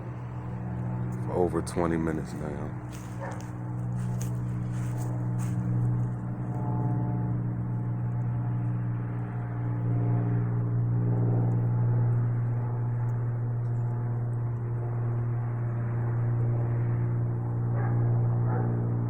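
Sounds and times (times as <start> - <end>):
propeller plane engine hum: 0.0 - 19.0.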